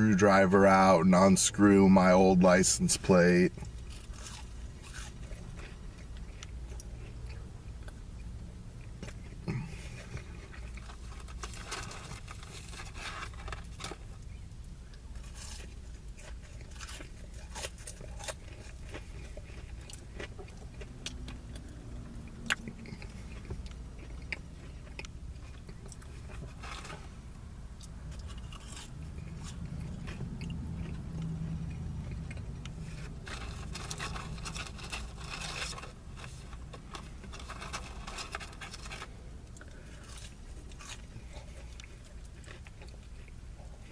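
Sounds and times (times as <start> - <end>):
steady low rumble: 0.0 - 43.9
person crunching fries: 0.8 - 43.9.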